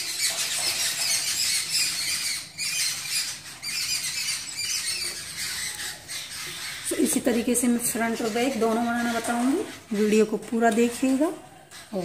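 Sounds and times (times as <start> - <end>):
high-pitched chirping and squeaking: 0.0 - 12.0.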